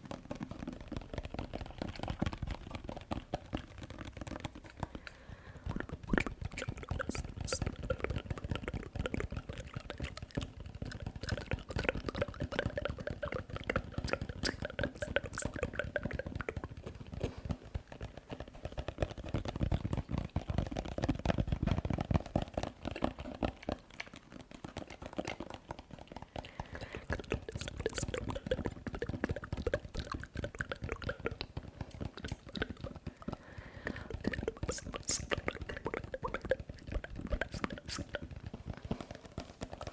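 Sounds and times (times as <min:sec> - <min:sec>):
wet mouth sounds: 0:00.0 - 0:39.9.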